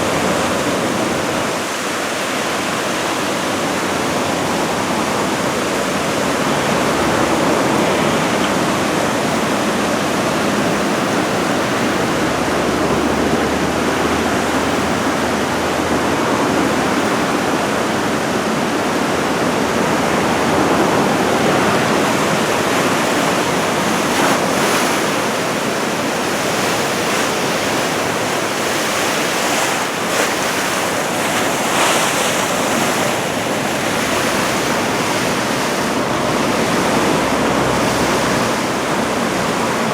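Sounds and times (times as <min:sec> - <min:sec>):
ocean surf breaking: 0:00.0 - 0:39.9
wind on microphone: 0:00.0 - 0:39.9.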